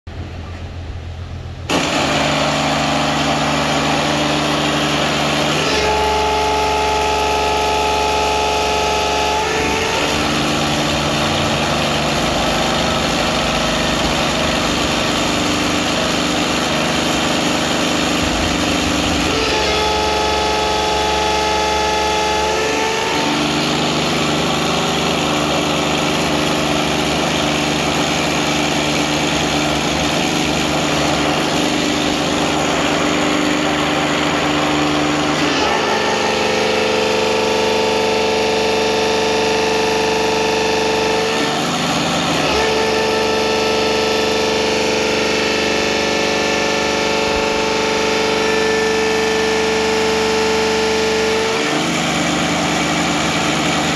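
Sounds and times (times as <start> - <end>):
excavator engine and pump drone: 0.1 - 53.9
hydraulic pump whine: 0.1 - 53.9.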